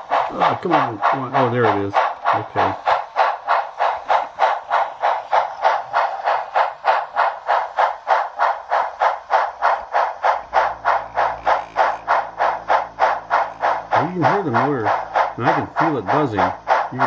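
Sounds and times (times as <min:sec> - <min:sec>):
steam exhaust chuffs from speaker: 0:00.0 - 0:17.0.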